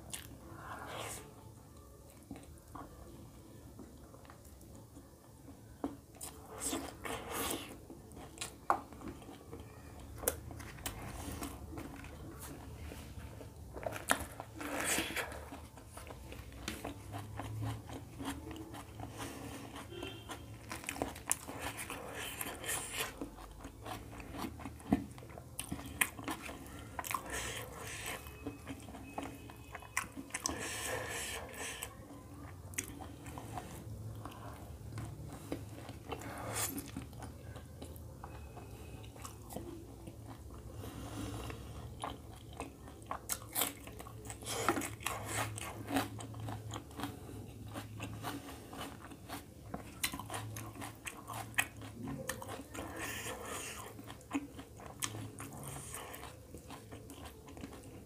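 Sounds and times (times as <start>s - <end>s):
man chewing with mouth smacks: 0.0s - 1.3s, 5.6s - 58.0s.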